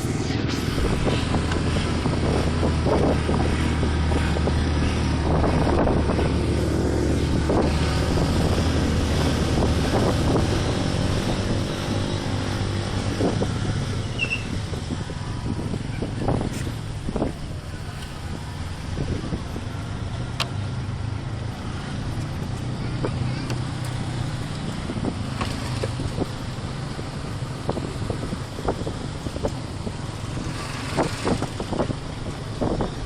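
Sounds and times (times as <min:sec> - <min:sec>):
road and wind noise: 0:00.0 - 0:33.0
vehicle engine hum: 0:00.0 - 0:33.0.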